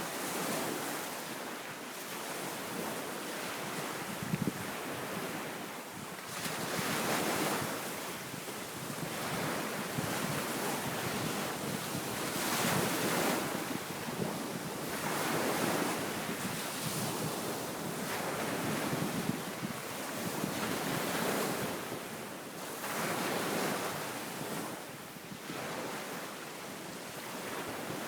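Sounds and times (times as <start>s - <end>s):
wind blowing across microphone: 0.2s - 28.0s.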